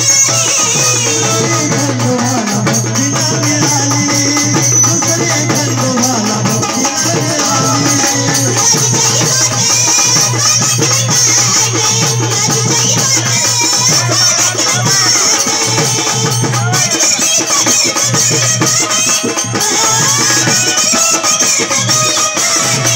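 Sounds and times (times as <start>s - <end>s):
drum and jingling percussion: 0.0s - 22.9s
woman singing: 0.0s - 22.9s.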